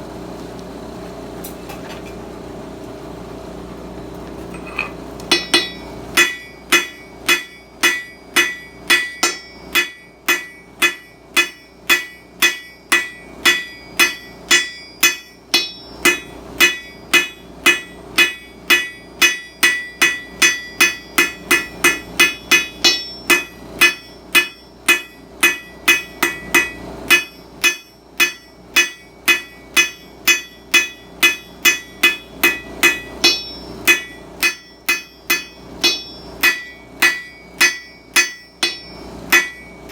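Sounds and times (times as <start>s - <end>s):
hammer striking steel on anvil: 4.6s - 39.9s.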